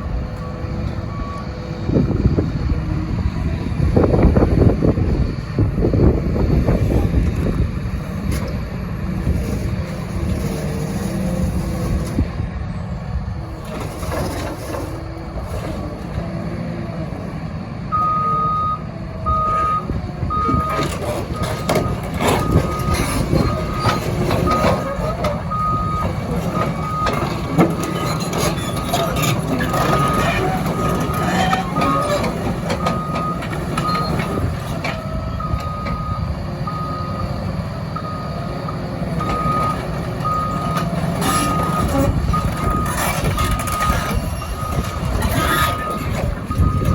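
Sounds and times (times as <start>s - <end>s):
excavator diesel engine rumbling: 0.0s - 46.9s.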